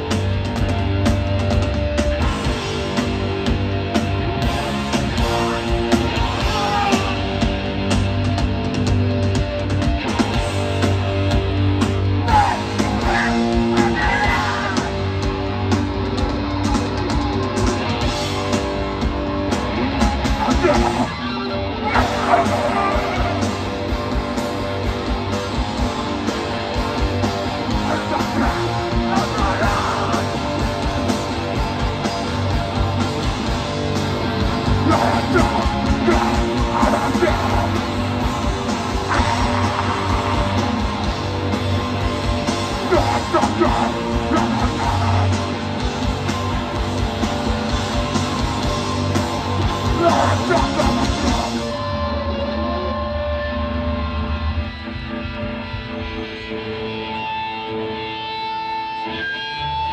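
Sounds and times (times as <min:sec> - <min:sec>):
punk band playing: 0:00.0 - 0:59.9.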